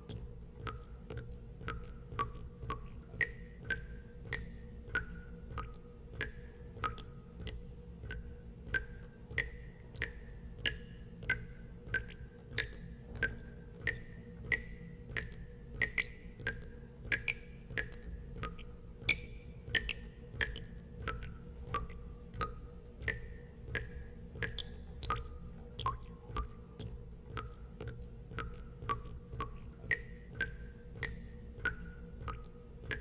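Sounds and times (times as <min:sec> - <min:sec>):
low steady hum: 0:00.0 - 0:33.0
water drops plinking into water: 0:00.0 - 0:33.0.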